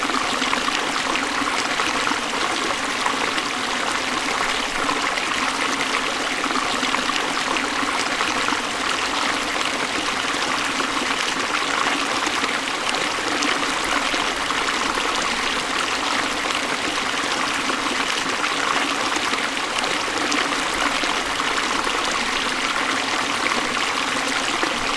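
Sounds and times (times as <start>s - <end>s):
stream running over rocks: 0.0s - 24.9s.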